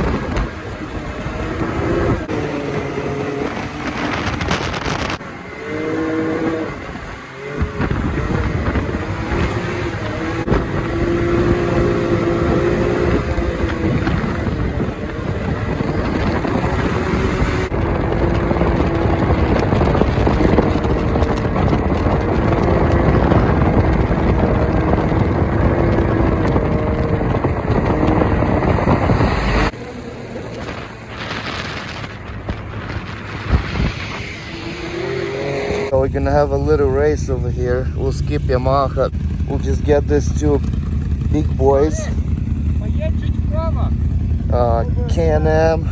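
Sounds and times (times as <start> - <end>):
side-by-side engine running under load: 0.0 - 45.9
wind buffeting microphone: 0.0 - 45.9.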